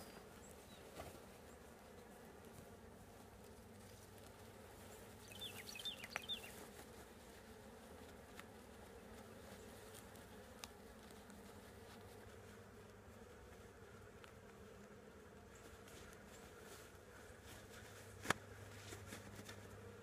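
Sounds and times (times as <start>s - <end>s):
honey bees buzzing: 0.0s - 18.8s.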